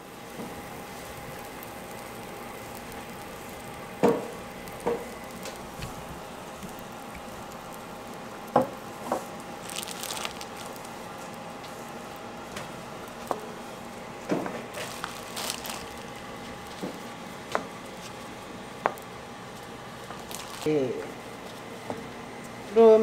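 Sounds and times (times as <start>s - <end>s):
toast sizzling on a griddle: 0.0s - 21.7s.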